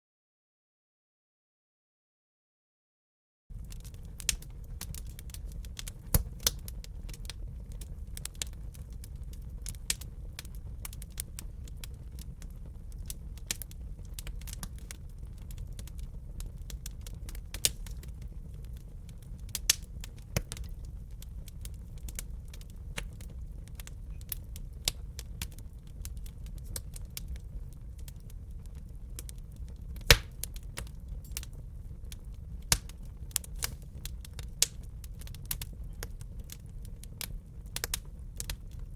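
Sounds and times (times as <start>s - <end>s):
low rumble of flames: 3.5s - 38.9s
wood fire crackling and popping: 3.5s - 38.9s.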